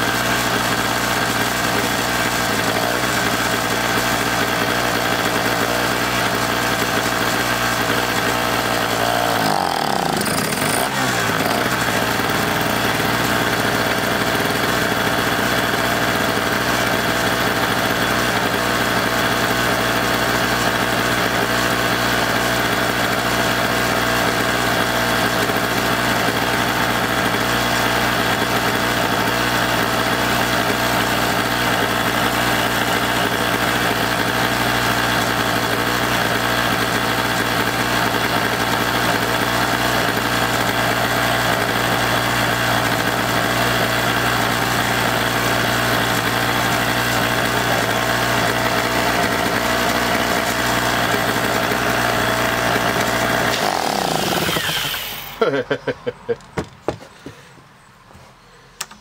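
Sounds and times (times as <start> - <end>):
generator engine running: 0.0 - 57.7.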